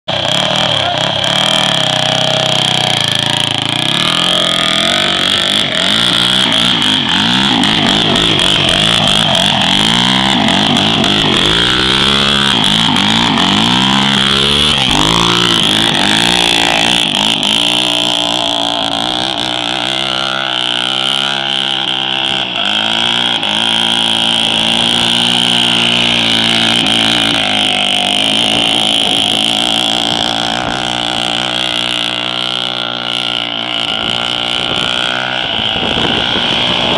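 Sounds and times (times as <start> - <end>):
quad engine revving: 0.0 - 36.9.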